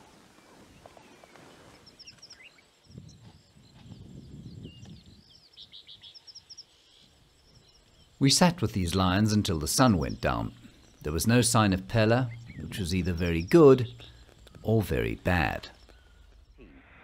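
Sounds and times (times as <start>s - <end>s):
small birds chirping and whistling: 0.7s - 8.2s, 8.8s - 16.6s.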